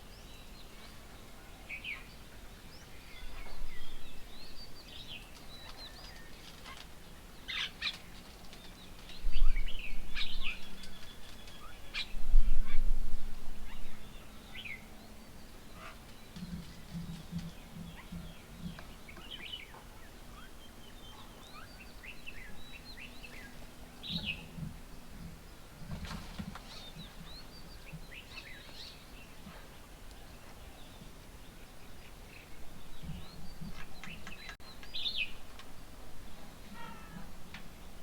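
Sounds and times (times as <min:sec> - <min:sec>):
birds chirping: 0:00.0 - 0:12.8, 0:13.6 - 0:35.5.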